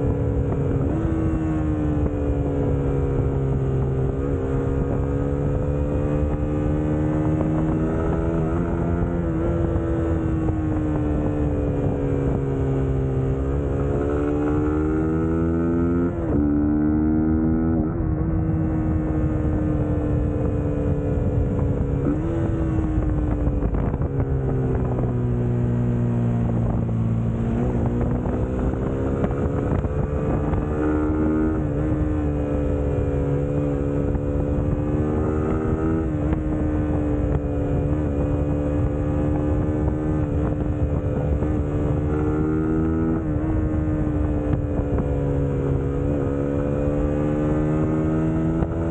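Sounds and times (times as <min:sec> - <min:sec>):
motorcycle engine running: 0:00.0 - 0:48.9
wind on microphone: 0:00.0 - 0:48.9.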